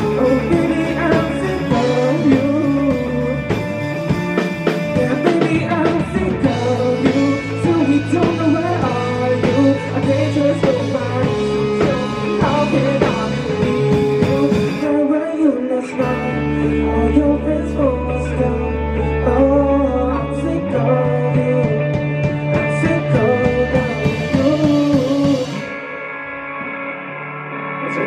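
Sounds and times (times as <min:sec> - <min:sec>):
electric guitar lead bending pitch: 0:00.0 - 0:28.0
rock band playing live: 0:00.0 - 0:28.0.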